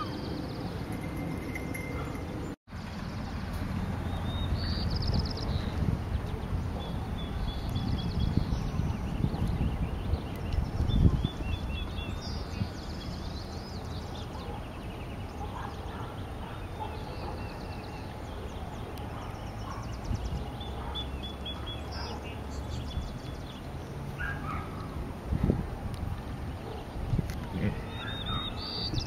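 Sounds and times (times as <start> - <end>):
small birds chirping and singing: 0.0 - 29.0.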